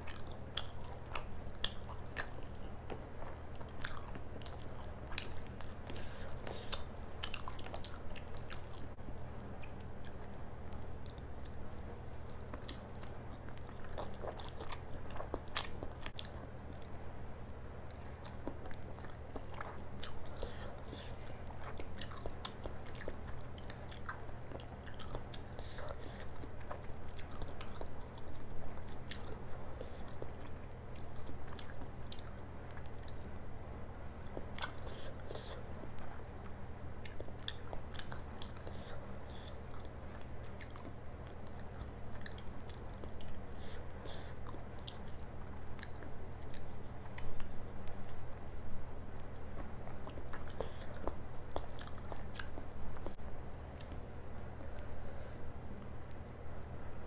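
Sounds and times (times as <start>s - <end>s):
chewing and biting food: 0.0s - 56.9s
steady low hum: 0.0s - 57.0s.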